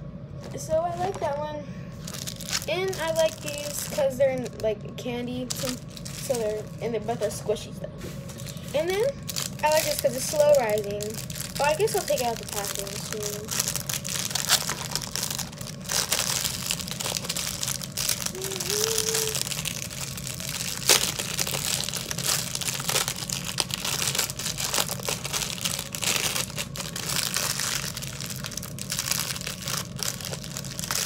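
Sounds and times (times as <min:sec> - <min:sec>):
plastic packaging crinkling: 0:00.4 - 0:01.4, 0:02.0 - 0:31.0.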